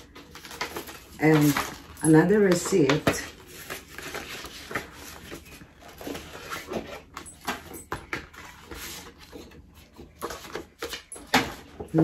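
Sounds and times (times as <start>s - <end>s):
paper and cardboard rustling: 0.0s - 12.0s.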